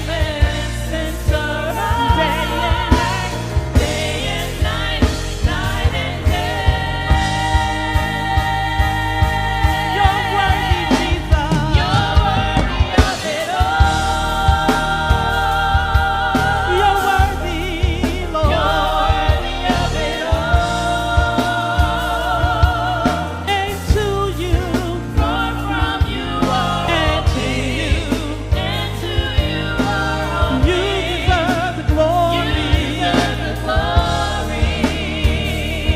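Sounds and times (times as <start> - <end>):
drums keeping steady beat: 0.0 - 35.9
live band: 0.0 - 35.9
singers holding long notes: 0.0 - 35.9
sustained bass: 0.0 - 35.9.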